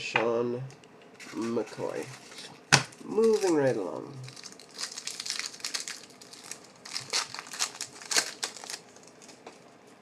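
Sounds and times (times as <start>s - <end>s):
foil wrapper crinkling: 1.2s - 9.7s.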